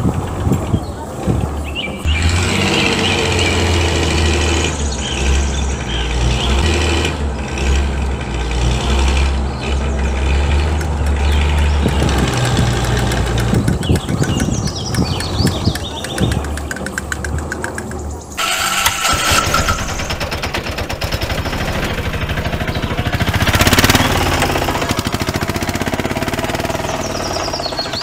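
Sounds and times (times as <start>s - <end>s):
vehicle engine humming: 0.0s - 28.0s.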